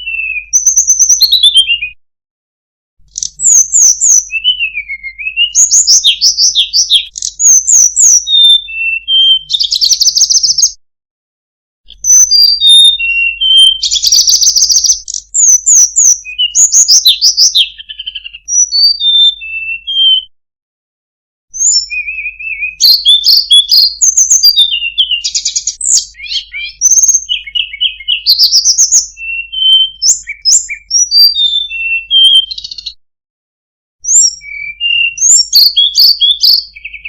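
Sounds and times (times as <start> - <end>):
bird singing whistles and trills: 0.0 - 2.0, 3.0 - 10.8, 11.9 - 20.3, 21.5 - 33.0, 34.0 - 37.0.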